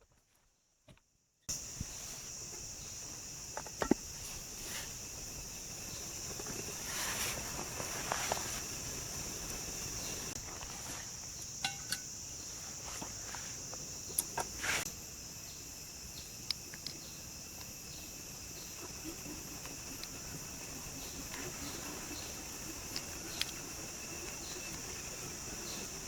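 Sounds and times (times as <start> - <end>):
insects chirring: 1.5 - 26.0.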